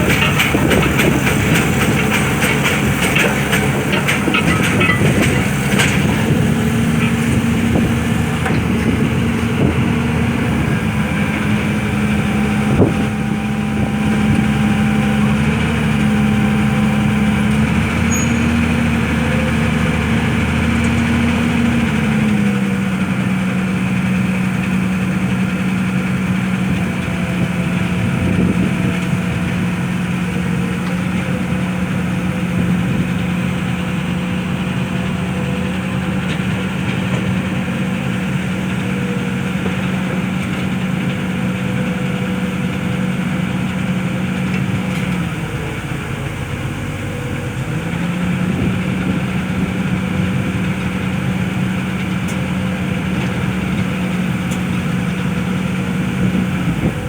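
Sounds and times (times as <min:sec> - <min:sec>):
pile driver engine running: 0:00.0 - 0:57.0.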